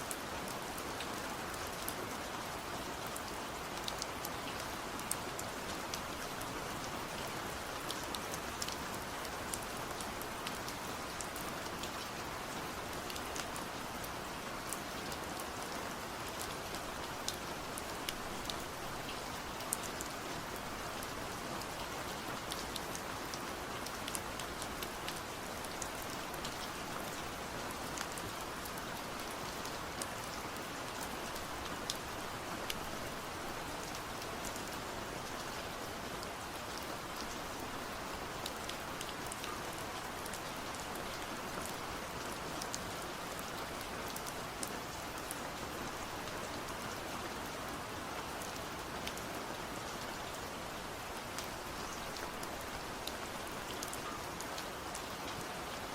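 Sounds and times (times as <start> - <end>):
raindrops ticking on a surface: 0.0 - 55.8
rain falling: 0.0 - 55.9.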